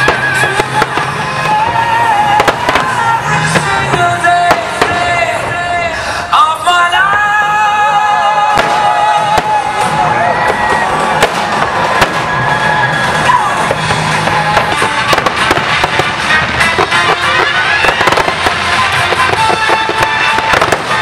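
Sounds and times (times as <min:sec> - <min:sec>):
fireworks bursting and crackling: 0:00.0 - 0:21.0
music playing: 0:00.0 - 0:21.0.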